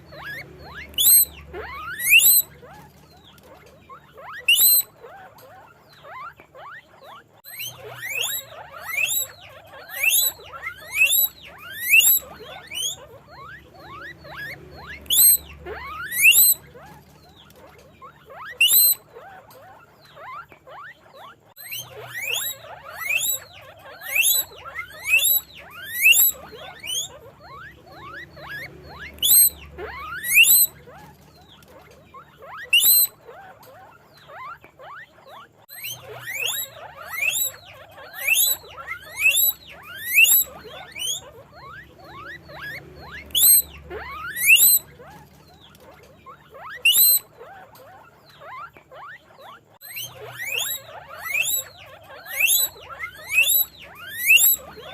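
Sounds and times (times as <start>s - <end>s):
guinea pigs squeaking: 0.0s - 54.9s
quiet chatter: 0.0s - 54.9s.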